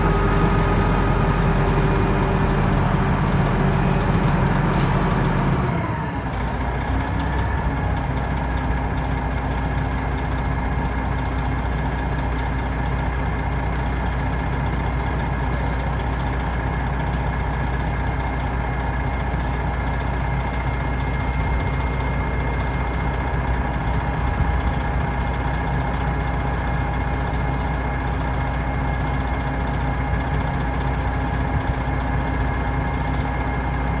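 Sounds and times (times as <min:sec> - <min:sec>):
large engine idling: 0:00.0 - 0:34.0.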